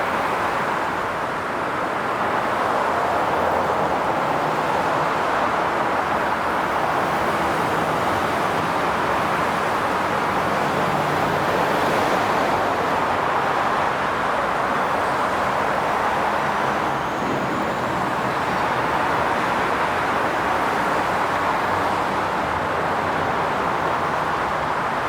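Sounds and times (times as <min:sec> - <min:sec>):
highway traffic: 0:00.0 - 0:25.0.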